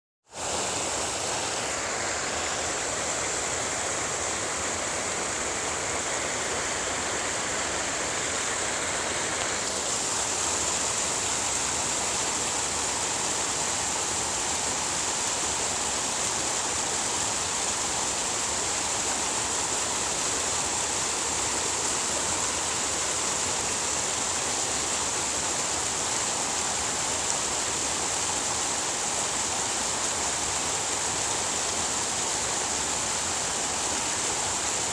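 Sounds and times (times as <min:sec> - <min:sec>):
flowing water rushing: 0:00.2 - 0:34.9.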